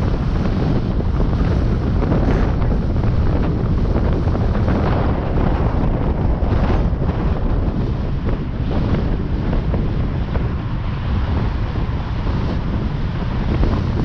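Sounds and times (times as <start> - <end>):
low road rumble: 0.0 - 14.0
wind buffeting microphone: 0.0 - 14.0.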